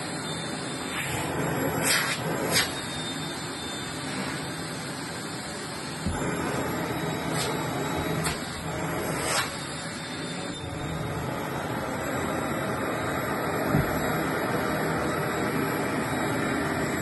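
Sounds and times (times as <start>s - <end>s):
vacuum cleaner on upholstery: 0.0s - 17.0s.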